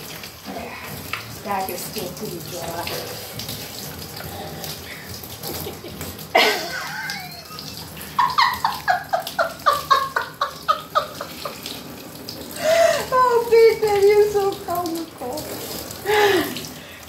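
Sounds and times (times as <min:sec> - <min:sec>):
shower spray running: 0:00.0 - 0:17.0.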